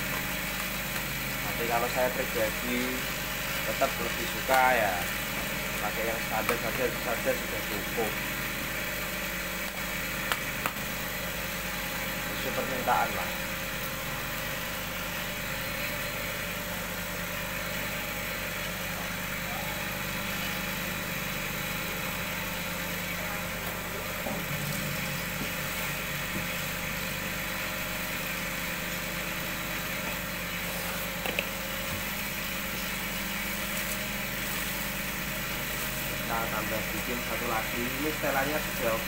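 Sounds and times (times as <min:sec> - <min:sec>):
gas burner hissing: 0:00.0 - 0:39.0
motor humming: 0:00.0 - 0:39.0.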